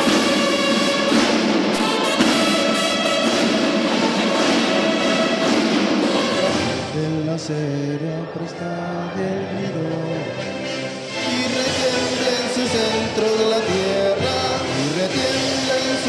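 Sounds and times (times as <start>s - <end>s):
bugle and drum corps march: 0.0s - 7.7s, 10.2s - 16.0s.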